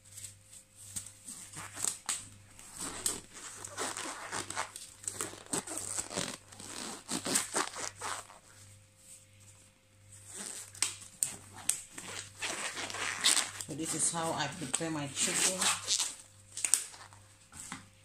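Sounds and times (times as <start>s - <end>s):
disposable gloves crinkling: 0.0s - 17.8s.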